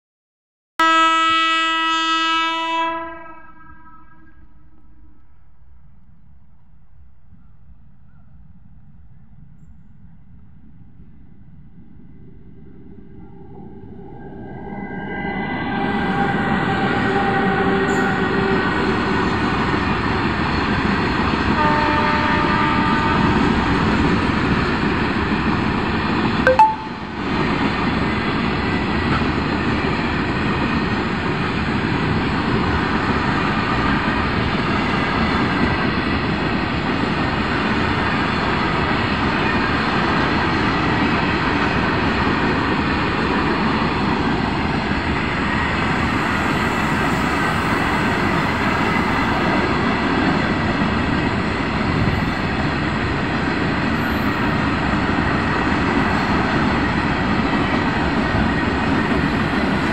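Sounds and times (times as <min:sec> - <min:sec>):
freight train passing: 0:00.8 - 0:59.9.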